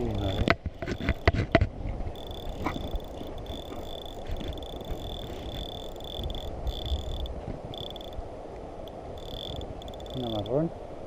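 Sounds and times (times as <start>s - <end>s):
rushing river water: 0.0s - 11.0s
wind: 0.0s - 11.0s.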